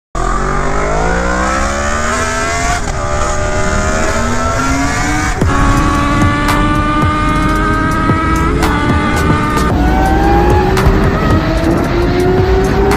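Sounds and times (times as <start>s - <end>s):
motorcycle engine accelerating: 0.2s - 12.9s.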